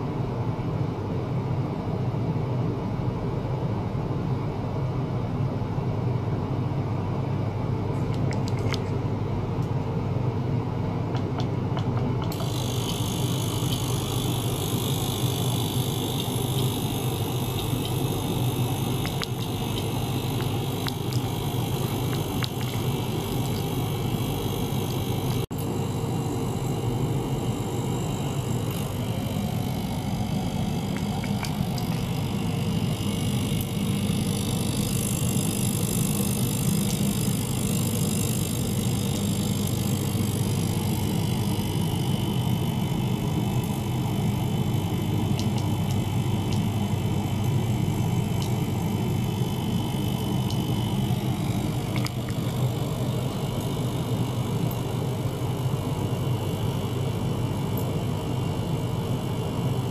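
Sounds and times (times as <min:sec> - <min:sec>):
ultrasonic cleaner buzzing hum: 0:00.0 - 0:59.9.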